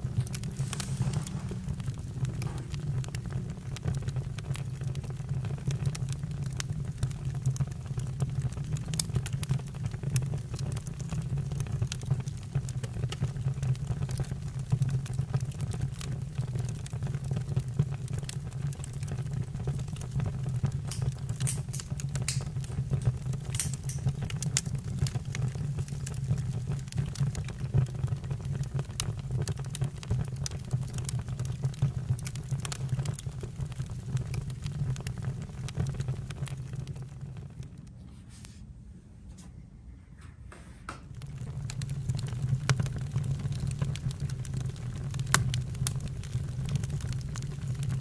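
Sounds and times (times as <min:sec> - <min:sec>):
campfire flames rushing: 0:00.0 - 0:37.8, 0:41.1 - 0:48.0
fire crackling and popping: 0:00.0 - 0:37.9, 0:41.0 - 0:48.0.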